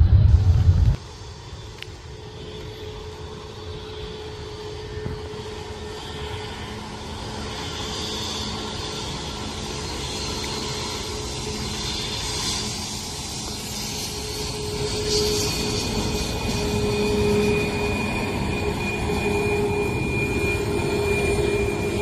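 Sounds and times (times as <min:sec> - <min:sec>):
jet engines humming: 0:00.0 - 0:22.0.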